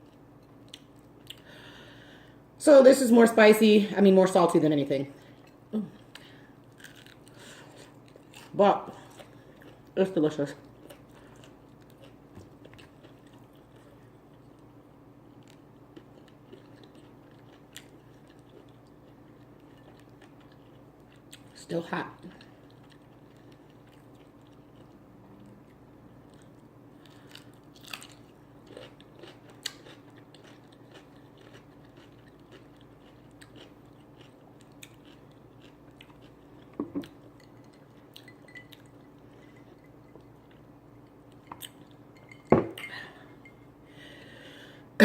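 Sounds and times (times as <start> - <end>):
chewing with crunches: 0.0 - 1.5, 5.2 - 42.1
faint steady hum: 0.0 - 45.0.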